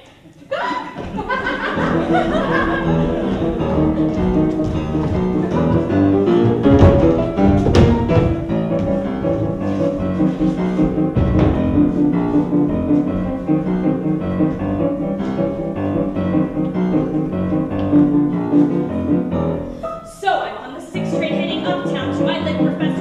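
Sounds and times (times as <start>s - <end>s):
piano music: 1.3s - 23.0s.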